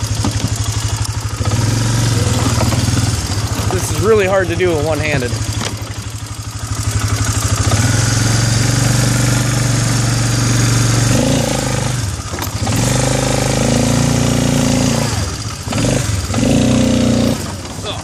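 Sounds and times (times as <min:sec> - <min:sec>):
atv engine running under load: 0:00.0 - 0:18.0.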